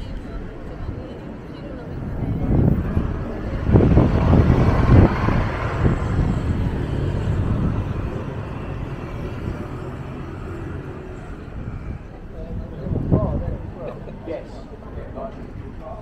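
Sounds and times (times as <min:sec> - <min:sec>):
bus driving past: 0:00.0 - 0:14.8.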